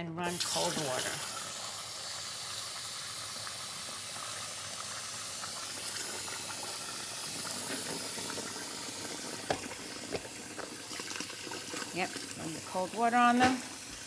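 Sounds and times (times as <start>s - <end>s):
water running from faucet: 0.2s - 14.0s.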